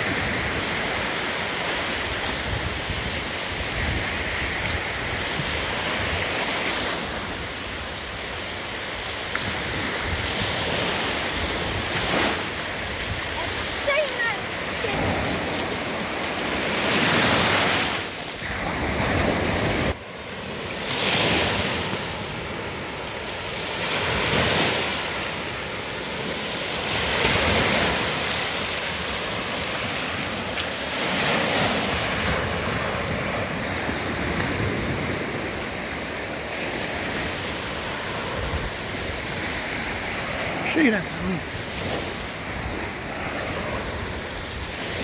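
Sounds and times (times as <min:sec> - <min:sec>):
sea waves breaking on shore: 0:00.0 - 0:45.0.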